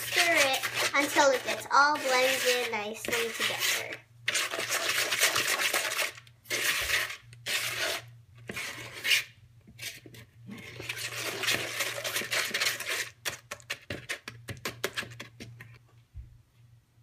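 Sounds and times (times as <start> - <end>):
spatula scraping mixing bowl: 0.0 - 15.8.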